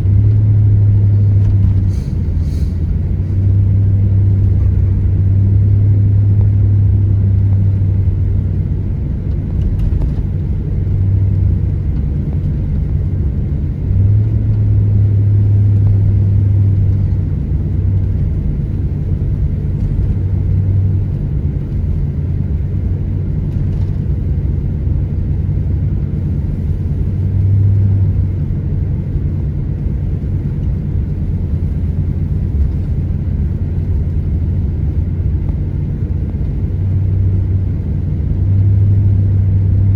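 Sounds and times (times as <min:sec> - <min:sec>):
car interior road and engine noise: 0:00.0 - 0:39.9.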